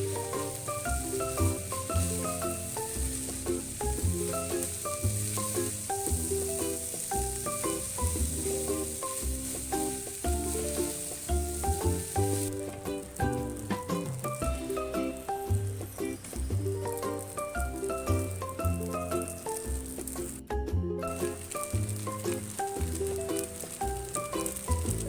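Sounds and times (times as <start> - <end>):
food sizzling in hot oil: 0.0 - 25.0
light instrumental music: 0.0 - 25.0.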